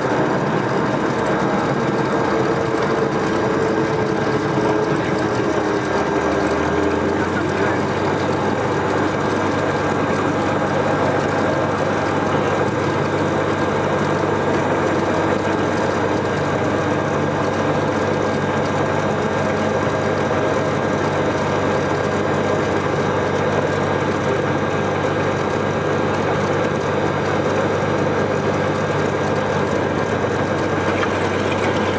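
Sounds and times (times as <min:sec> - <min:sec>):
propeller plane engine drone: 0:00.0 - 0:31.9.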